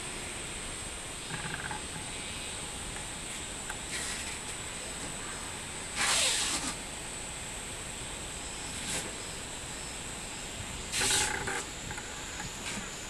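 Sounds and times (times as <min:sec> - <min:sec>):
cicadas singing: 0:00.0 - 0:13.0.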